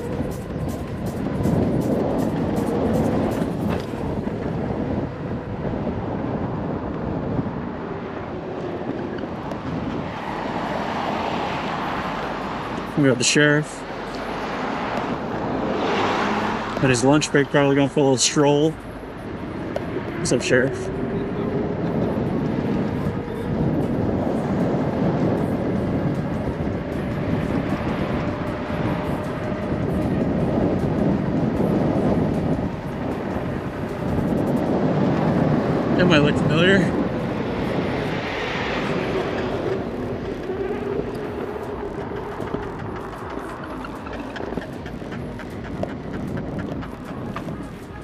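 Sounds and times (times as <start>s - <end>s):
tyre and motor rumble: 0.0s - 48.0s
wind noise on microphone: 0.0s - 48.0s.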